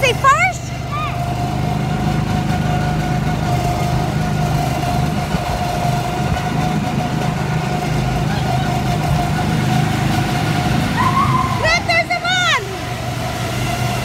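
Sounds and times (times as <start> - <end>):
go-kart engine droning: 0.0 - 14.0.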